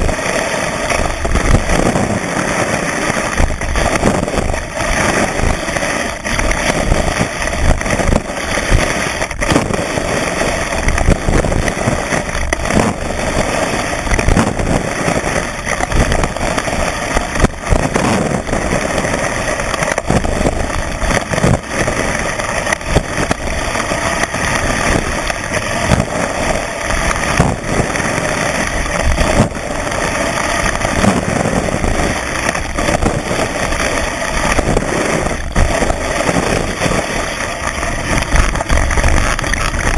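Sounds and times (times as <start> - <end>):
ski knocking over bumps: 0.0 - 39.9
skis hissing over snow: 0.0 - 39.9.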